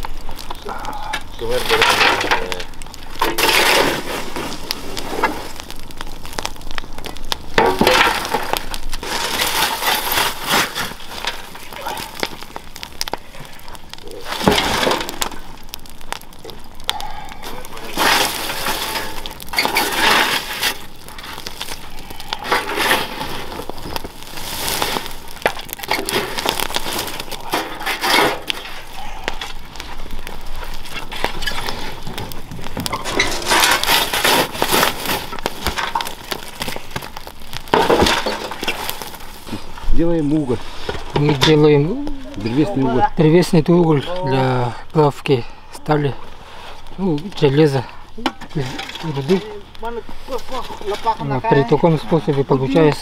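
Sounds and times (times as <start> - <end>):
metal shovel raking burning wood: 0.0 - 53.0
wood fire crackling and popping: 0.0 - 53.0.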